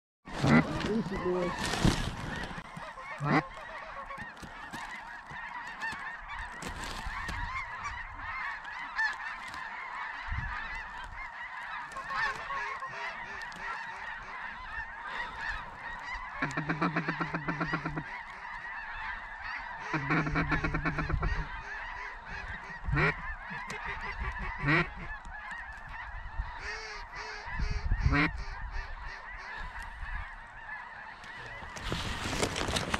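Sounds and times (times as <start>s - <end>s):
flocks of geese calling: 0.3s - 32.9s
rapidly pulsing goose call: 0.4s - 31.9s.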